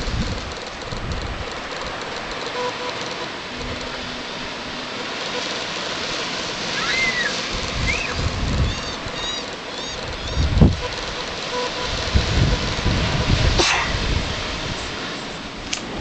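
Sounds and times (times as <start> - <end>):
surf breaking on a beach: 0.0 - 16.0
sliding bird calls: 0.4 - 13.9.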